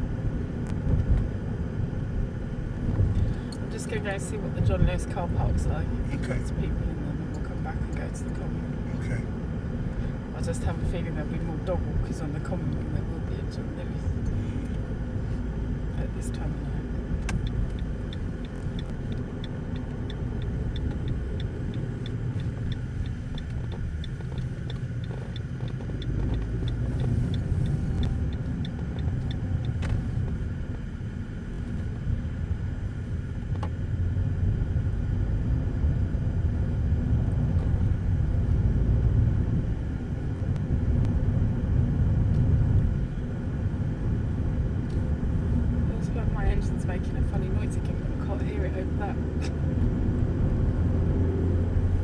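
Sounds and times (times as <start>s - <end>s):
car engine and road rumble: 0.0s - 52.0s
turn signal ticking: 2.4s - 52.0s.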